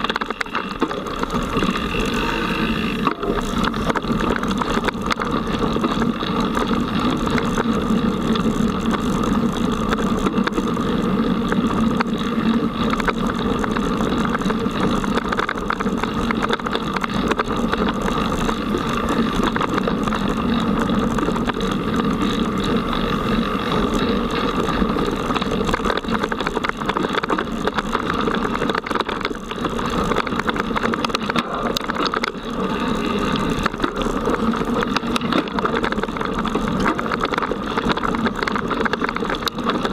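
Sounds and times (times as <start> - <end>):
bike and mount vibrating: 0.0 - 39.9
knobby tyres rumbling on dirt: 0.0 - 39.9.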